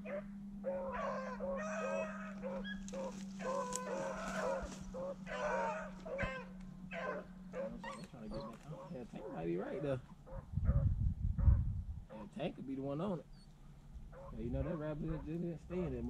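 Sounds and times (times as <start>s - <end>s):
dogs yelping: 0.0s - 16.0s
low hum: 0.0s - 16.0s.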